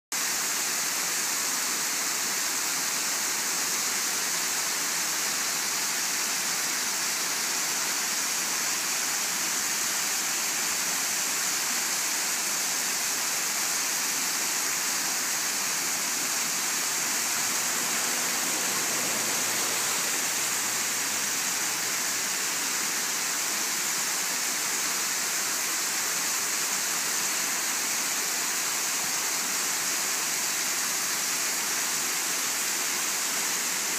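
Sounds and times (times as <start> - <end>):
waterfall splashing: 0.2 - 33.9.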